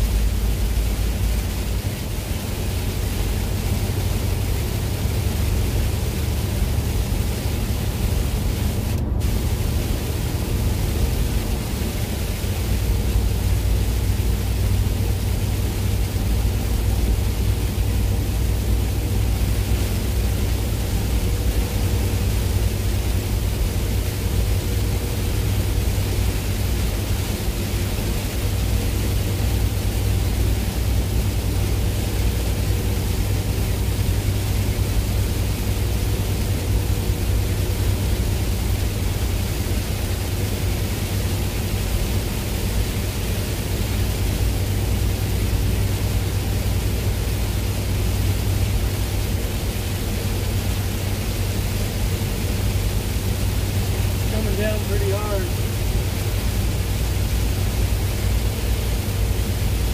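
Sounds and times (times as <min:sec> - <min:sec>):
vehicle road and engine drone: 0:00.0 - 0:59.9.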